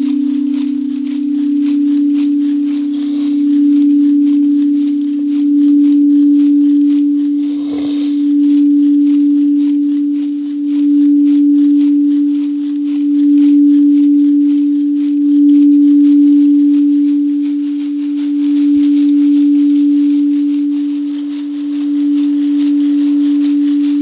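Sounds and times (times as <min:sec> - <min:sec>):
singing bowl tone: 0:00.0 - 0:24.0.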